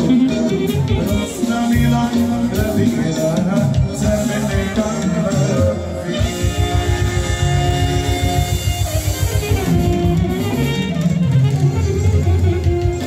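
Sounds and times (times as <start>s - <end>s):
folk band playing dance tune: 0.0s - 13.0s.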